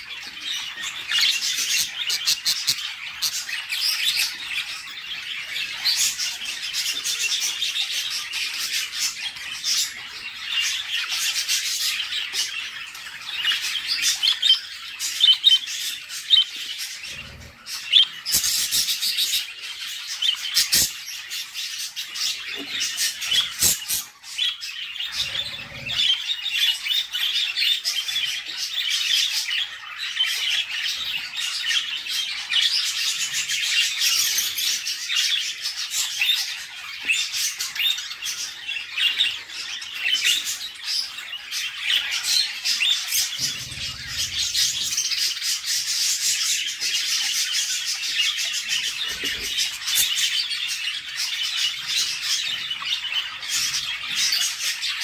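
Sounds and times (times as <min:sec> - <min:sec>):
budgerigar chicks cheeping: 0:00.0 - 0:55.0.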